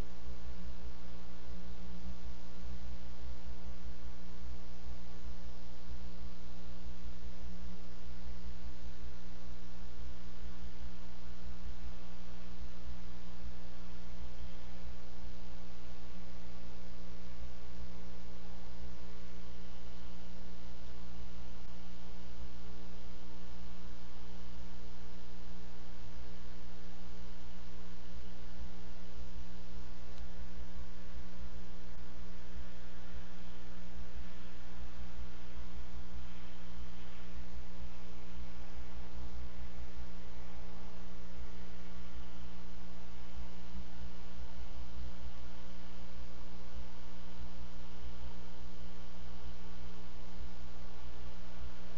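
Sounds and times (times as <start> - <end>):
electrical hum: 0.0 - 51.9
steady hiss: 0.0 - 51.9.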